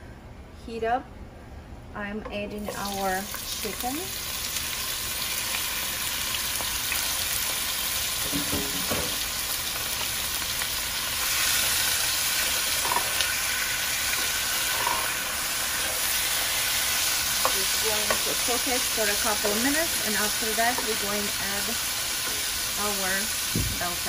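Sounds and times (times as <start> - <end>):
chicken sizzling in oil: 2.8 - 24.0.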